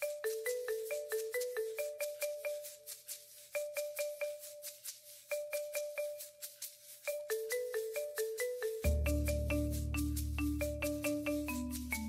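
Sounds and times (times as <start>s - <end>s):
marimba-like mallet melody: 0.0s - 12.0s.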